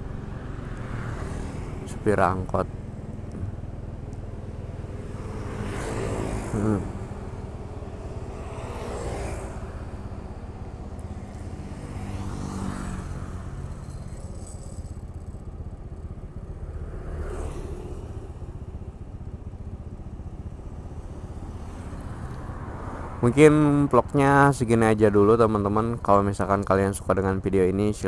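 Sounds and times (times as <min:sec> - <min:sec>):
low engine rumble: 0:00.0 - 0:28.0
vehicles passing: 0:00.0 - 0:28.0.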